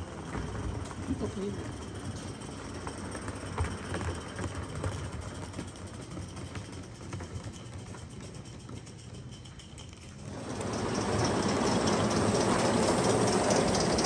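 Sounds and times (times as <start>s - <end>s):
model steam locomotive running: 0.0s - 14.0s
wheels clicking on rails: 0.0s - 14.0s.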